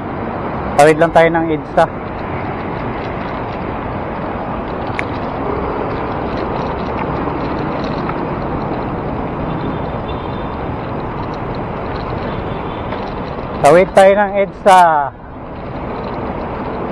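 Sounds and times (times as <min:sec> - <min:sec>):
heavy road traffic rushing: 0:00.0 - 0:16.9.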